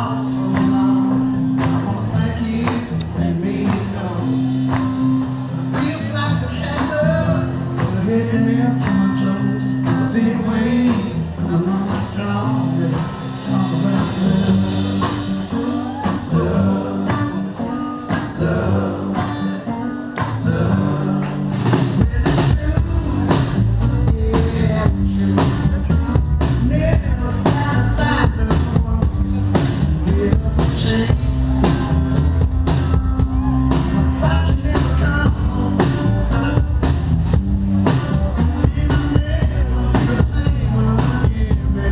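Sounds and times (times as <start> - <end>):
live rock and blues band: 0.0 - 41.9.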